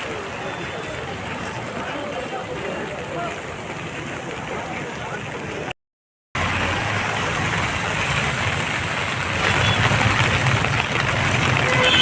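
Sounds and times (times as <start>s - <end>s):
road traffic passing: 0.0s - 5.8s, 6.4s - 12.0s.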